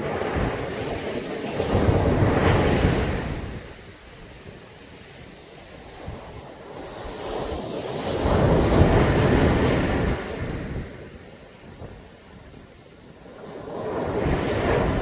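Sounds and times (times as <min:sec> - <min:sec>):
sea waves on a beach: 0:00.0 - 0:15.0.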